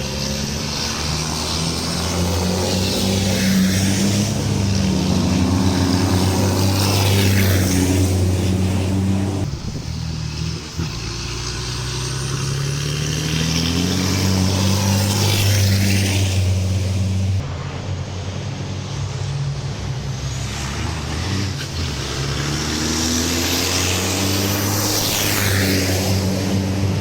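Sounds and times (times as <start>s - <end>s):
racing truck engines passing: 0.0s - 27.0s.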